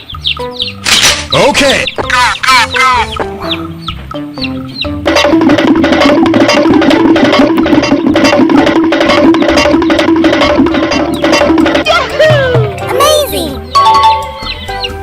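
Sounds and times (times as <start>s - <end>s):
upbeat music with percussive beat: 1.3s - 15.0s.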